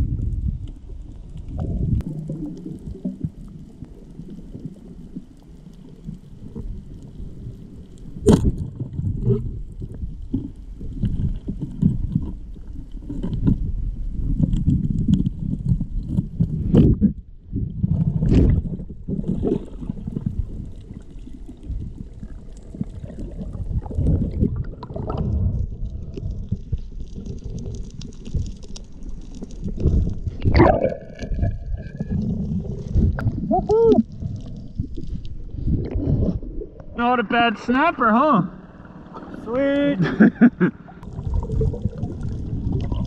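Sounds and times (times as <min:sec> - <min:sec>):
muffled underwater rumble: 0:00.0 - 0:43.0.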